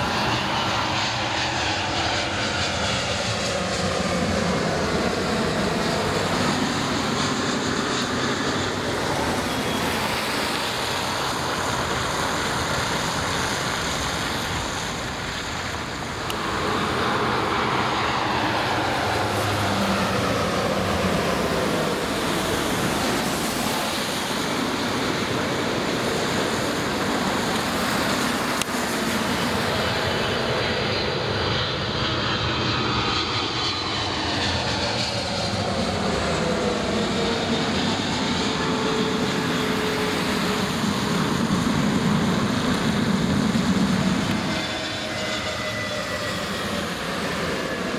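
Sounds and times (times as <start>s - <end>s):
jet engines passing: 0.0s - 47.9s.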